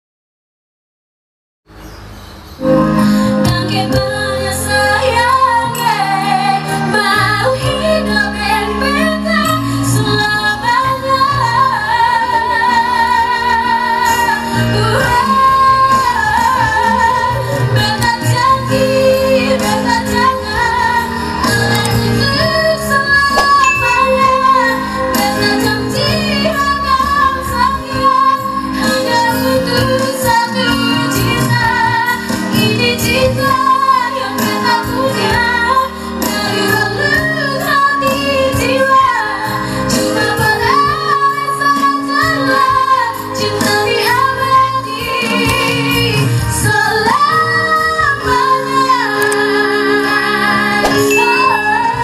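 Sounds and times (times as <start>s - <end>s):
song with sung vocals: 2.8s - 52.0s.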